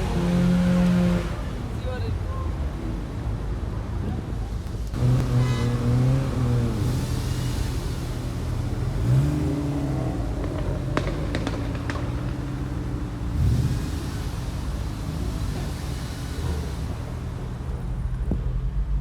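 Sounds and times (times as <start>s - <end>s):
car engines accelerating past: 0.0s - 1.9s, 4.7s - 18.3s.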